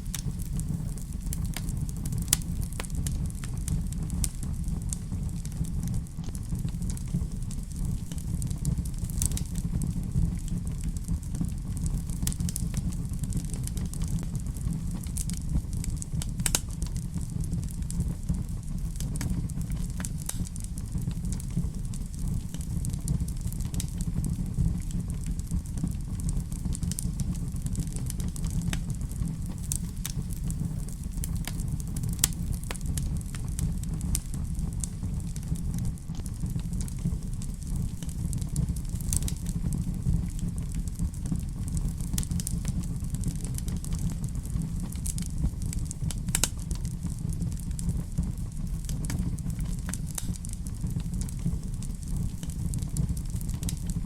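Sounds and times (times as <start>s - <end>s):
fire rumbling: 0.0s - 54.0s
wood fire pops and snaps: 0.0s - 54.0s.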